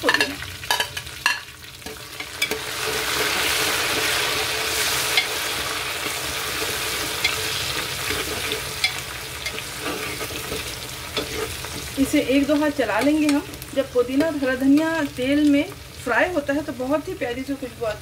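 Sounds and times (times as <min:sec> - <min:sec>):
herbs sizzling in hot oil: 0:00.0 - 0:18.0.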